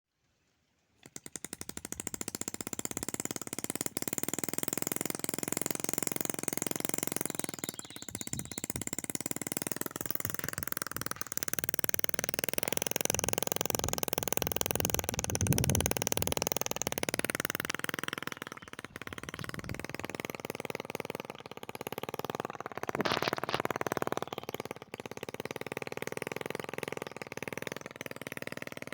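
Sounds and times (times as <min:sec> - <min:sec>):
small two-stroke engine buzzing: 0:01.0 - 0:28.9.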